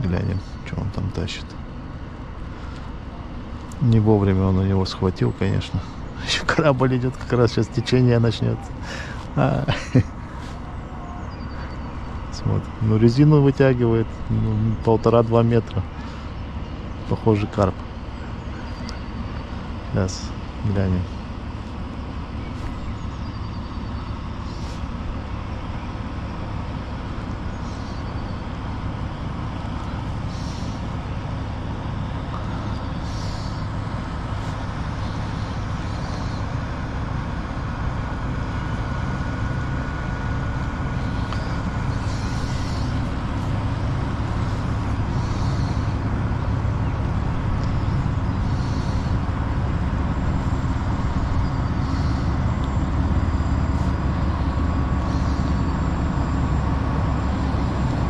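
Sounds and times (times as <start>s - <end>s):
ship engine drone: 0.0s - 58.0s.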